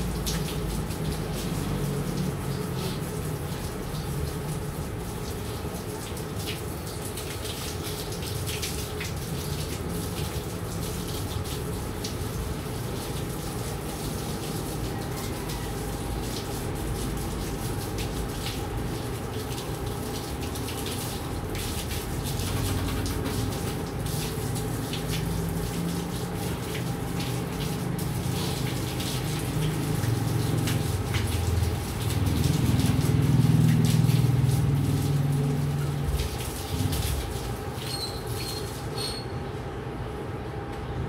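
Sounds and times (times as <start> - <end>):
garden hose spraying water: 0.0 - 39.4.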